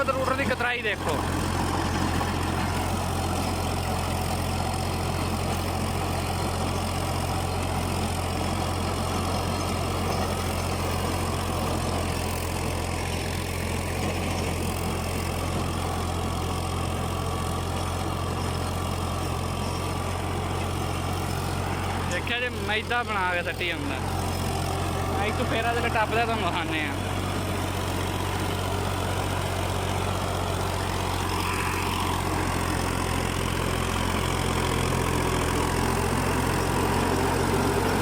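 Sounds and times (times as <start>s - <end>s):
rotavator cutting grass: 0.0s - 38.0s
tractor diesel engine droning: 0.0s - 38.0s.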